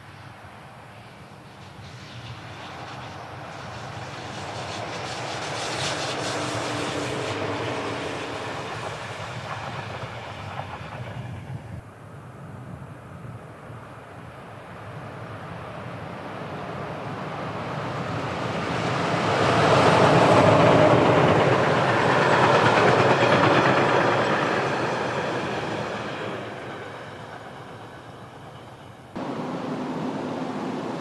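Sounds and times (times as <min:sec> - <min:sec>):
train passing: 0:00.0 - 0:11.9, 0:14.2 - 0:31.0.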